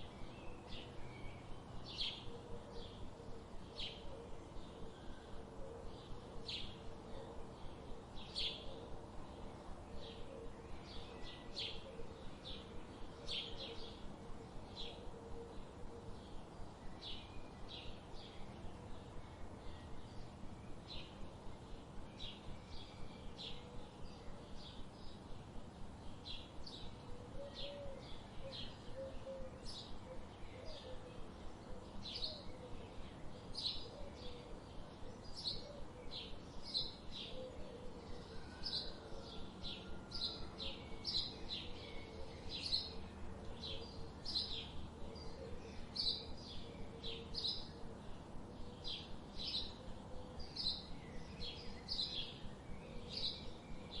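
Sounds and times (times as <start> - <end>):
steady background hiss: 0.0 - 54.0
small birds chirping: 6.0 - 54.0.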